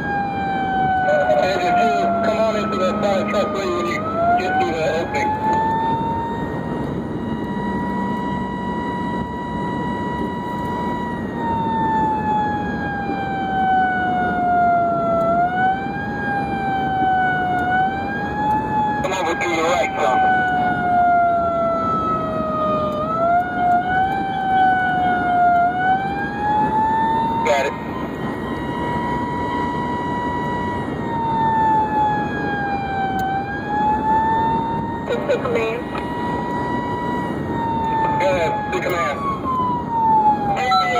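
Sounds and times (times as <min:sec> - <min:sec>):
emergency siren wailing: 0:00.0 - 0:40.9
road and engine noise: 0:00.0 - 0:40.9.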